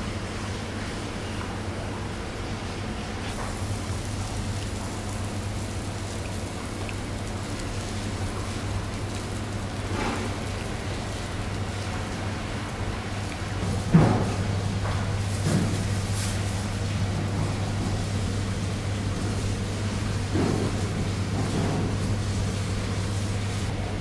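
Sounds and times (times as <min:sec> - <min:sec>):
constant low hum: 0:00.0 - 0:24.0.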